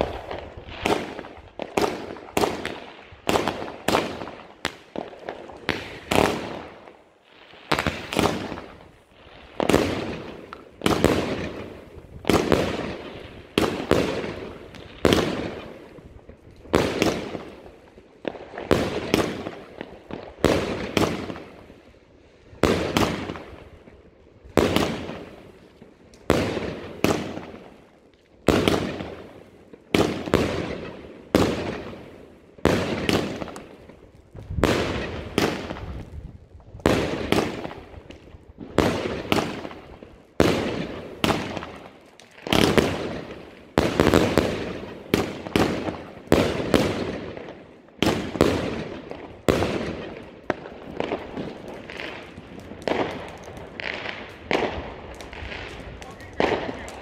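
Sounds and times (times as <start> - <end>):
fireworks bangs: 0.0 - 21.8, 22.5 - 57.0.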